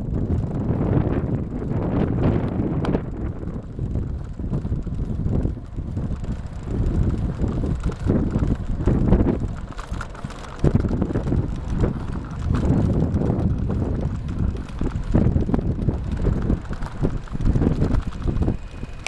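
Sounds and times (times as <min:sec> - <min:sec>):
bicycle knocks and rattles: 0:00.0 - 0:19.0
wind buffeting microphone: 0:00.0 - 0:19.0.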